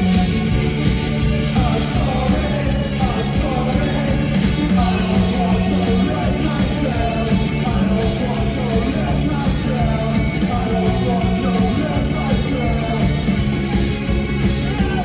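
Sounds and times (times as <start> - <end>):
live punk rock band: 0.0 - 15.0
person singing: 1.4 - 13.4, 14.6 - 15.0.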